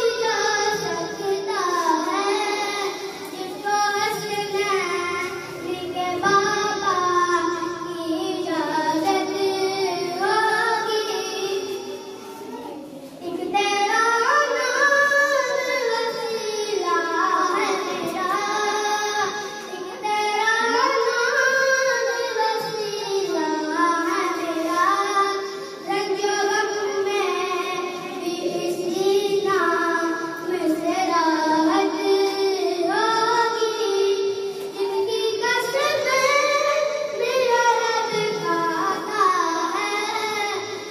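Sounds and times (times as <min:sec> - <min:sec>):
boy singing through loudspeaker: 0:00.0 - 0:40.9.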